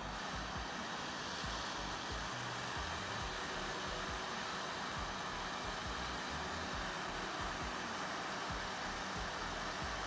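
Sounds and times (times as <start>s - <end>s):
hot-air gun blowing: 0.0s - 10.0s.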